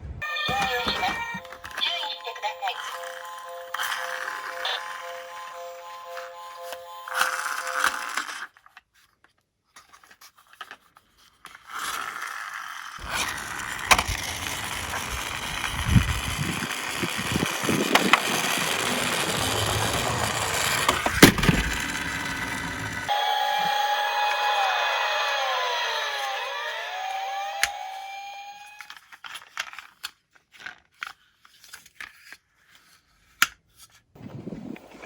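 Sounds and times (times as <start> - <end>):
toy cars rolling down a slope: 0.5 - 32.2.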